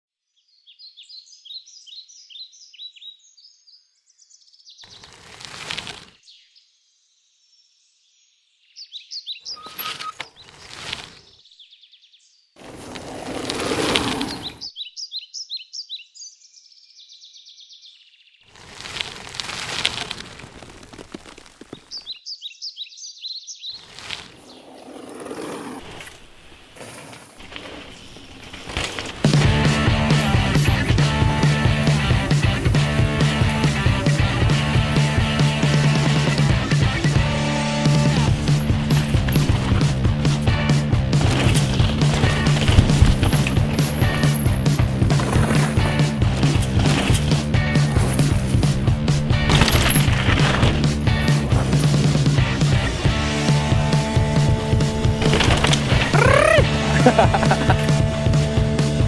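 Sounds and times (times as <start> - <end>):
songbird chirping: 0.2 - 18.6, 20.6 - 59.0.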